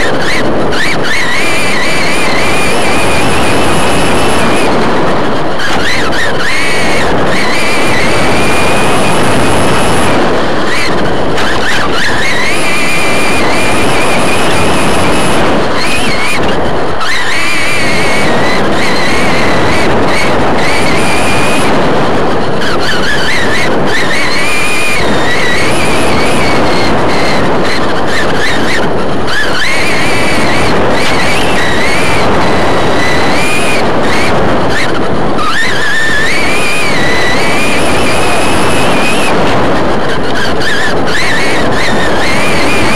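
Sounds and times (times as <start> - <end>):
rc truck motor whine: 0.0 - 42.9
wind and tyre noise: 0.0 - 42.9.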